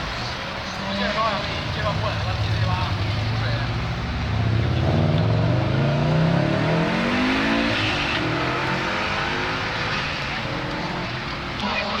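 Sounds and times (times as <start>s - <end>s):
car engine accelerating: 0.9s - 11.7s.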